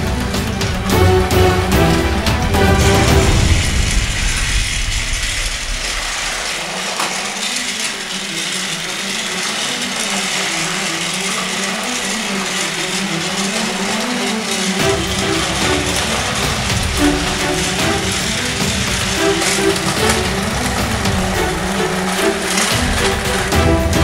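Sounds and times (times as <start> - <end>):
rattle of toy train wheels: 0.0 - 24.0
toy train motors whirring: 0.0 - 24.0.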